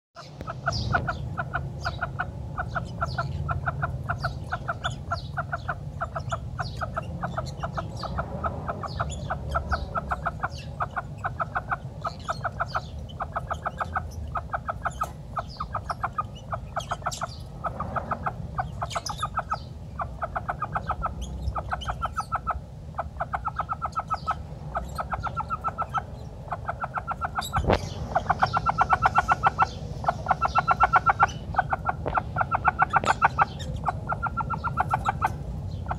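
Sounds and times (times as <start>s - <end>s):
hen clucking: 0.2s - 35.9s
small birds chirping: 0.2s - 35.9s.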